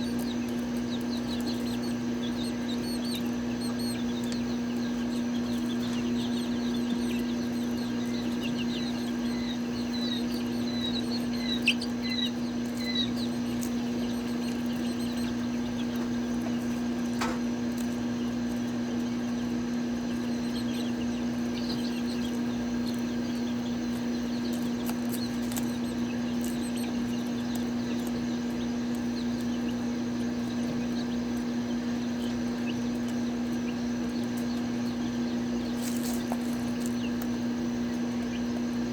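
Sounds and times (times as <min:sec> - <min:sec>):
chicks peeping: 0:00.0 - 0:38.9
low mechanical hum: 0:00.0 - 0:38.9.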